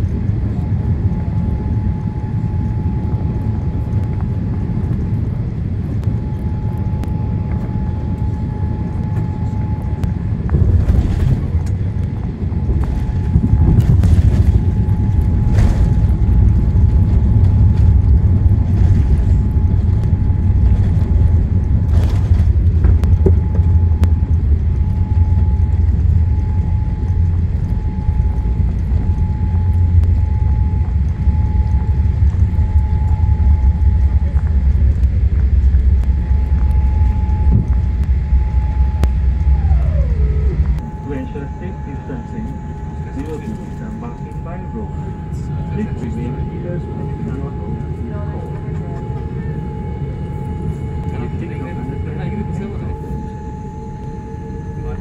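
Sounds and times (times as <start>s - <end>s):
heavy touchdown rumble: 0.0s - 52.4s
rumble of engines and airflow: 0.0s - 55.0s.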